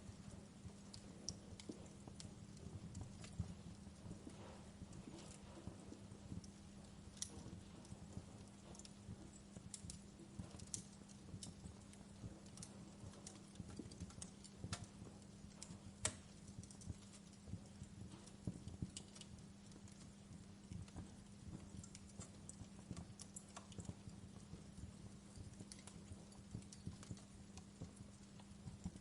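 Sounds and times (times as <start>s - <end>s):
faint low hum: 0.0s - 29.0s
wood fire crackling: 0.0s - 29.0s.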